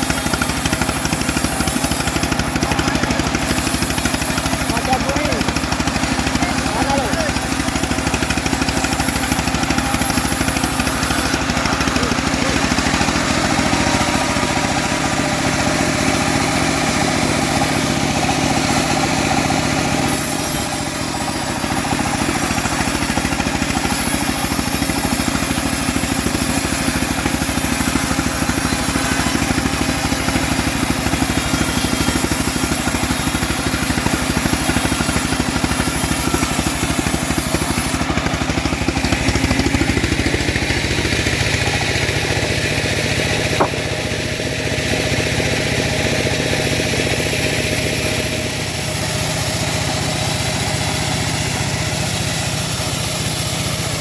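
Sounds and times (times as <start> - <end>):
bandsaw sawmill engine running: 0.0 - 54.0.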